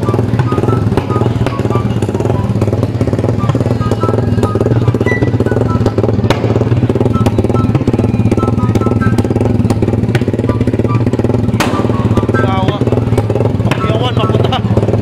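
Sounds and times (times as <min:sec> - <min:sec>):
motorcycle engine running: 0:00.0 - 0:15.0
sharp exhaust crack: 0:00.0 - 0:15.0.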